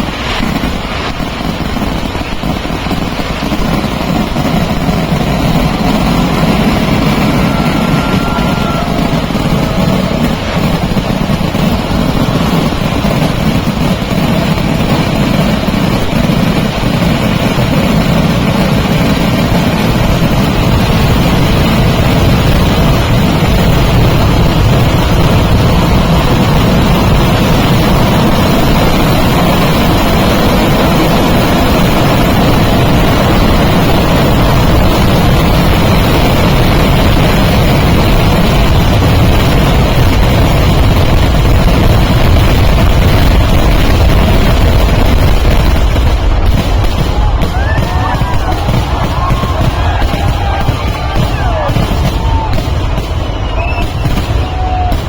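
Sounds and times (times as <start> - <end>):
fireworks explosions crackling: 0.0 - 55.0.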